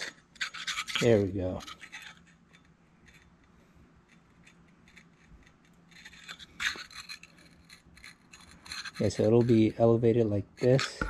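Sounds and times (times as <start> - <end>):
faint steady hum: 0.0 - 11.0
metal scraping on metal: 0.0 - 11.0.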